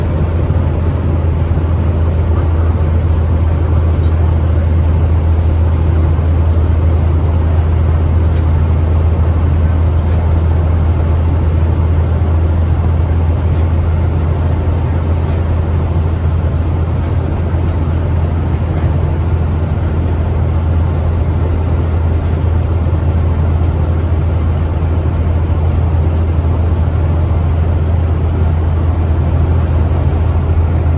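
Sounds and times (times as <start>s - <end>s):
truck diesel engine droning: 0.0s - 30.9s.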